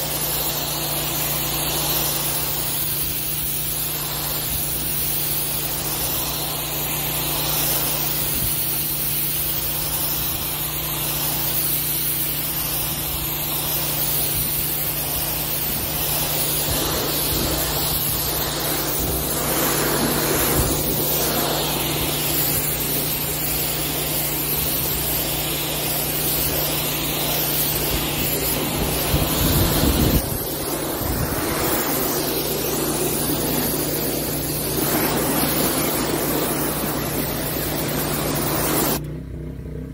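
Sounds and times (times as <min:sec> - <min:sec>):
water jet hissing on concrete: 0:00.0 - 0:39.1
pressure washer motor hum: 0:00.0 - 0:39.3.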